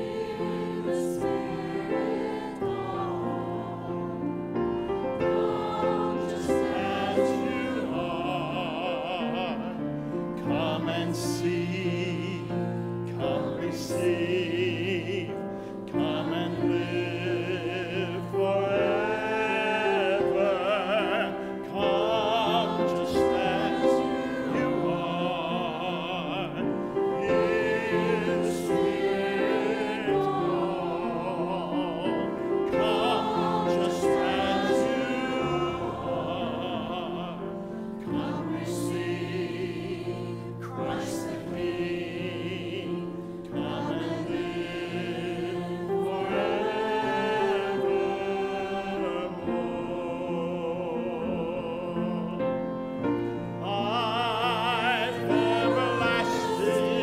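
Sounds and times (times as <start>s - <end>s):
church choir singing a hymn: 0.0s - 57.0s.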